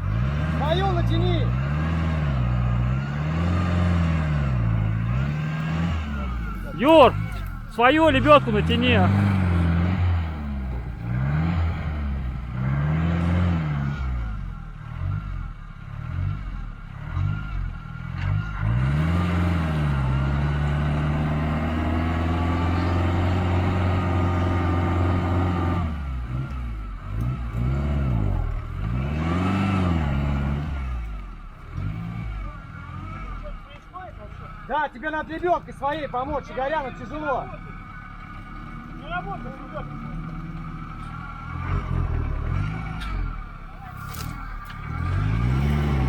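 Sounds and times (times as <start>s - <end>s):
off-road vehicle engine revving: 0.0s - 46.0s.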